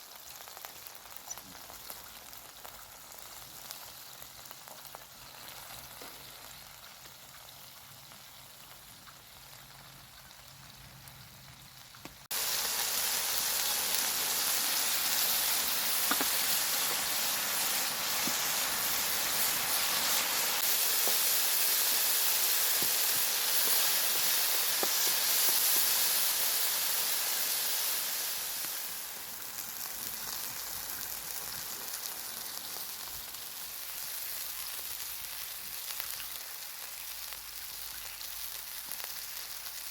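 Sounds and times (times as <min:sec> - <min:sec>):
food frying and sizzling: 0:00.0 - 0:39.9.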